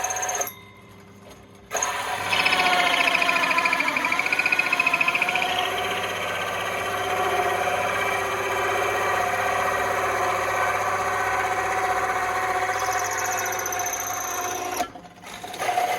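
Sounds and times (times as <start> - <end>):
electric drill boring into wood: 1.7 - 15.9.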